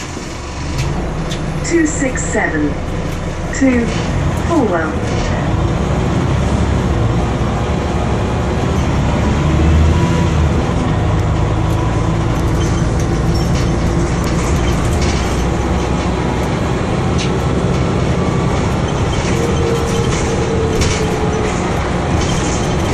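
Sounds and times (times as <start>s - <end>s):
bus body rattling: 0.0s - 22.9s
bus diesel engine drone: 0.0s - 22.9s
road rumble: 0.0s - 22.9s.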